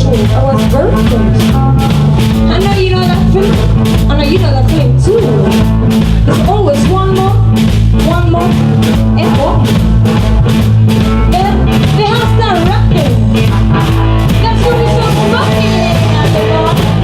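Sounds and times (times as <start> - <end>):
gliding lead guitar lines: 0.0 - 17.0
steady drum beat: 0.0 - 17.0
walking bass line: 0.0 - 17.0.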